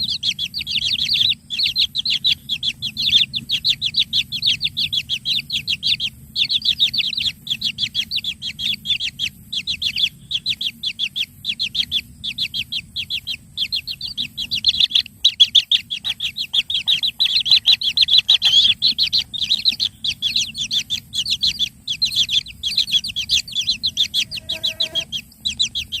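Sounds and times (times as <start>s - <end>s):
chick begging chirps: 0.0s - 26.0s.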